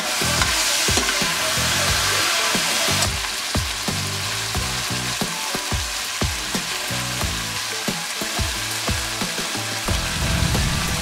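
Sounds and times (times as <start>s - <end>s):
background music with bass: 0.0s - 11.0s
vegetables sizzling: 0.0s - 11.0s.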